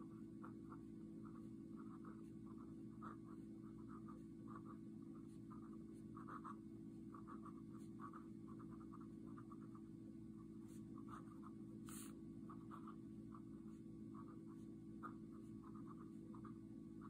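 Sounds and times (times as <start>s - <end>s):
steady low hum: 0.0s - 17.0s
fountain pen scratching on paper: 0.4s - 9.9s, 10.6s - 16.6s.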